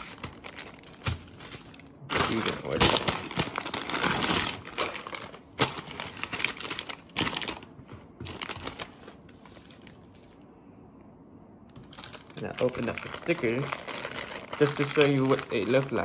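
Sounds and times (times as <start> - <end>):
plastic bags crinkling: 0.0 - 10.4, 11.8 - 16.0.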